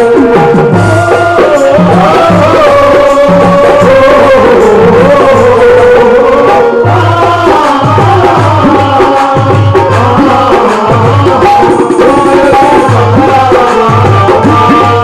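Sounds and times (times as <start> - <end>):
hand drum beat: 0.0 - 15.0.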